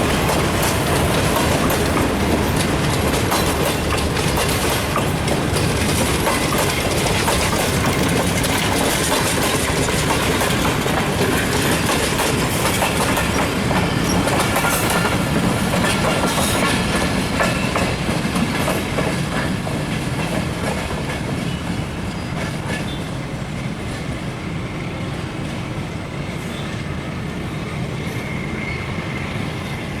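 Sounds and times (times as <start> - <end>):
train wheels clattering over rails: 0.0 - 30.0.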